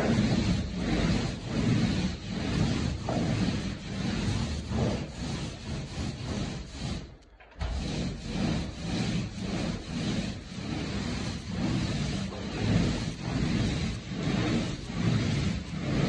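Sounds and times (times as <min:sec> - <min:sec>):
paint roller swishing on wall: 0:00.0 - 0:16.0.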